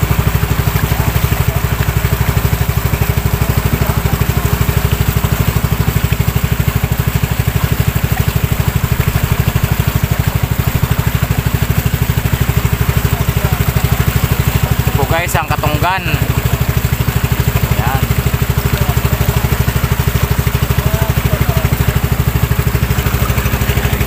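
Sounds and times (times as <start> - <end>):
boat engine thudding: 0.0 - 24.0
water rushing past hull: 0.0 - 24.0.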